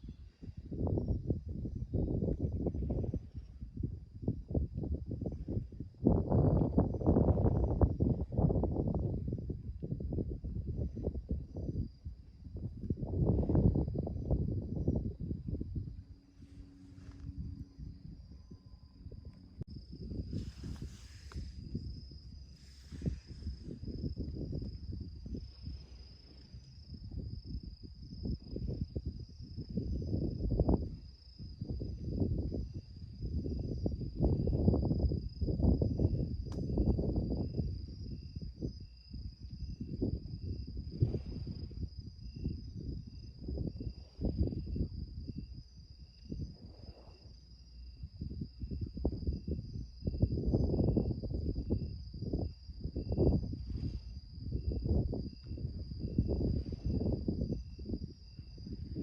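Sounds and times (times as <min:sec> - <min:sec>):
insect chirping: 0:00.0 - 0:59.0
insects buzzing: 0:00.0 - 0:59.0
wind buffeting microphone: 0:00.0 - 0:59.0.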